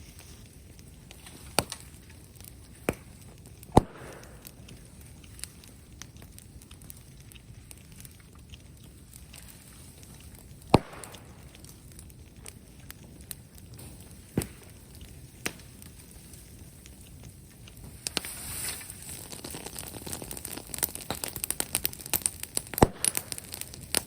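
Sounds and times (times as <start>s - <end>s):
fire popping loudly: 0.0s - 24.0s
wood fire crackling: 0.0s - 24.0s.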